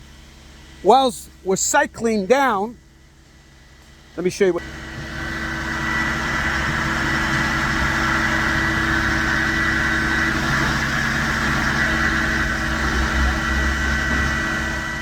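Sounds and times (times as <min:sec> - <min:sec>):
high hydraulic whine: 0:00.0 - 0:15.0
truck engine running: 0:00.0 - 0:15.0.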